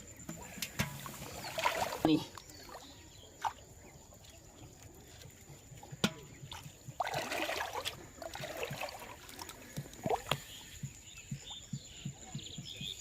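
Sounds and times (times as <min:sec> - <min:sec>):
shallow water splashing: 0:00.1 - 0:12.0.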